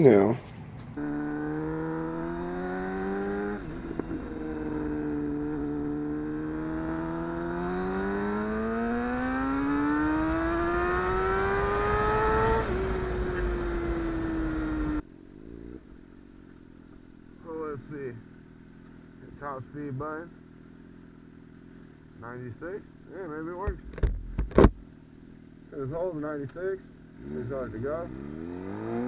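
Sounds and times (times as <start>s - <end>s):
motorcycle engine accelerating: 0.5s - 29.0s.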